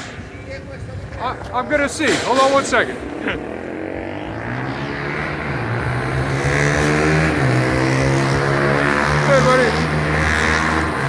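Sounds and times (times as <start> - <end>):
engine humming: 1.6 - 11.0.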